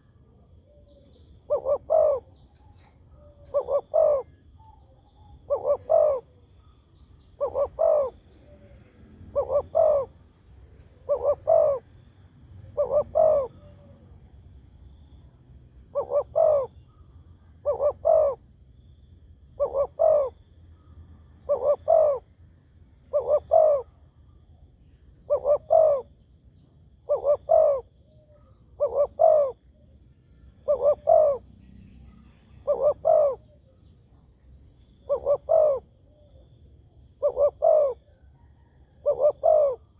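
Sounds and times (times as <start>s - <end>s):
dove cooing: 0.0s - 14.2s, 15.8s - 18.5s, 19.5s - 22.3s, 23.0s - 24.2s, 25.2s - 26.2s, 27.0s - 34.2s, 34.8s - 39.9s.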